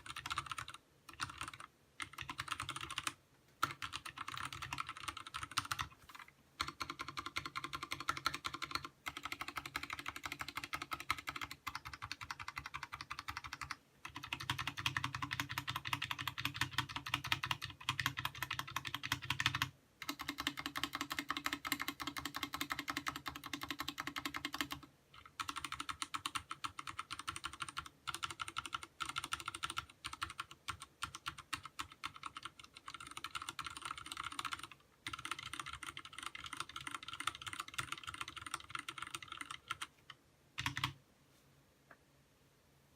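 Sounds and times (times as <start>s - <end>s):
mechanical keyboard typing: 0.0s - 41.0s.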